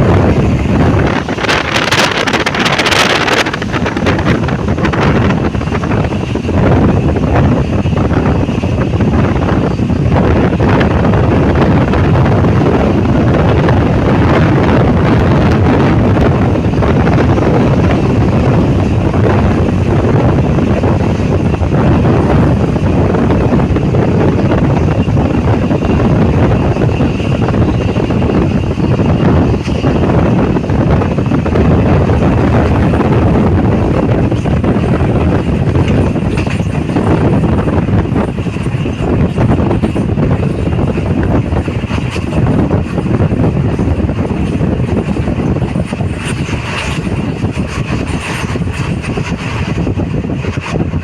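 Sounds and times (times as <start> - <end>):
moving vehicle rumble: 0.0 - 51.0
wind buffeting microphone: 0.0 - 51.0.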